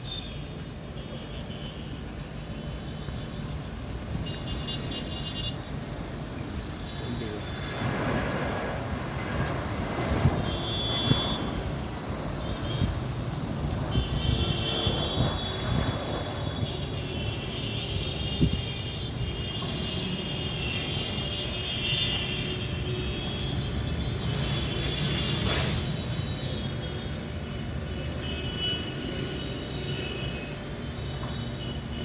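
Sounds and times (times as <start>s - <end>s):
airliner engines roaring: 0.0s - 32.0s.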